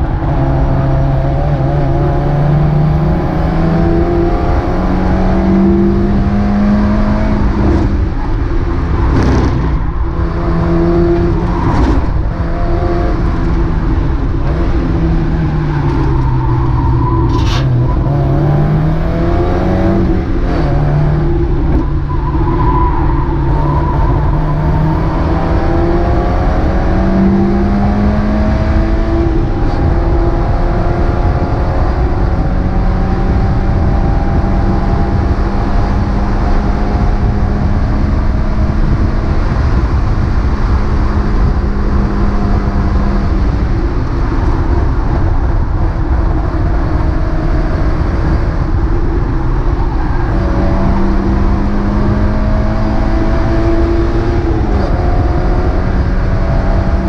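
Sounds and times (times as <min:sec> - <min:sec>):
race car engine revving: 0:00.0 - 0:57.0
tyre and road noise: 0:00.0 - 0:57.0.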